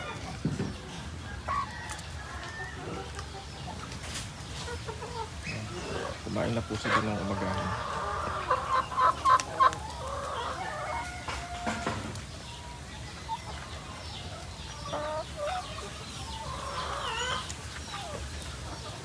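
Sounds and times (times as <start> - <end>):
chickens clucking: 0.0 - 19.0
chickens drawn-out calls: 0.0 - 19.0.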